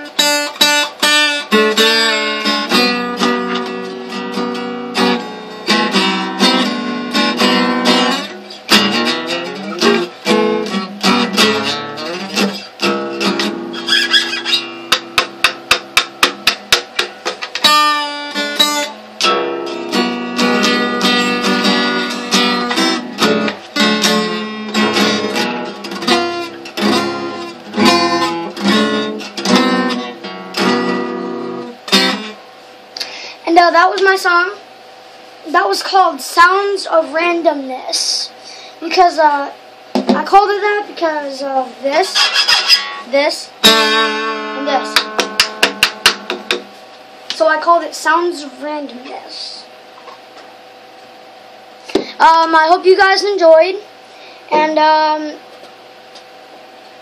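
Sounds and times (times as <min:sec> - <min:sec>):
acoustic guitar strummed and picked: 0:00.0 - 0:34.6, 0:35.5 - 0:50.5, 0:51.8 - 0:55.5.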